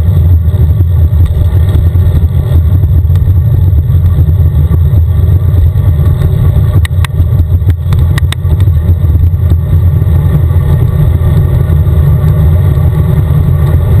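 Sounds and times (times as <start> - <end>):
wind and road noise rumble: 0.0 - 14.0.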